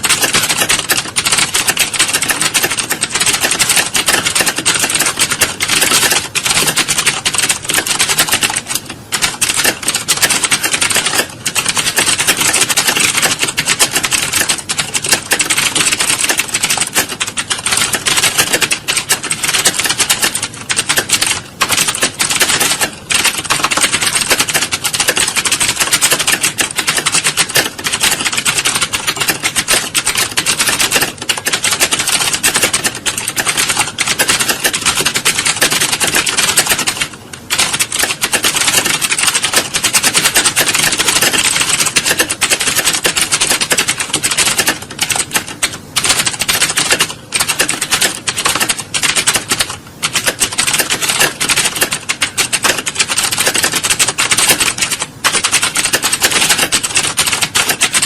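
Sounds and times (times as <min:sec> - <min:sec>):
many keyboards clattering: 0:00.0 - 0:58.0.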